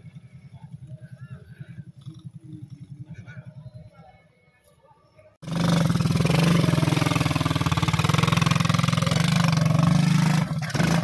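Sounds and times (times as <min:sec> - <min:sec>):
distant atv engine throbbing: 0:00.0 - 0:04.2, 0:05.4 - 0:11.0.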